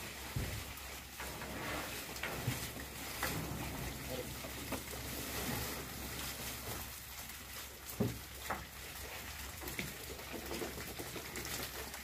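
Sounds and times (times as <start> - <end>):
fish flapping with wet rustle: 0.0 - 1.2, 1.8 - 12.0.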